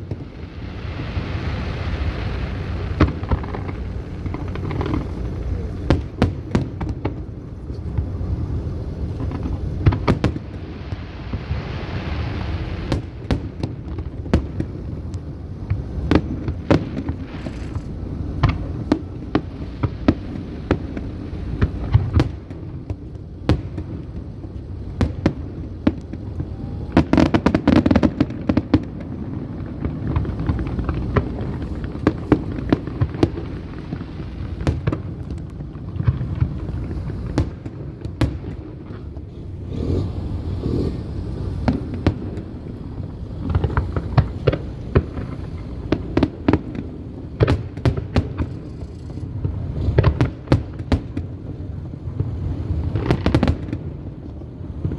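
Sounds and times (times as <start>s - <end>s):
fireworks bursting in bangs: 0.0s - 54.9s.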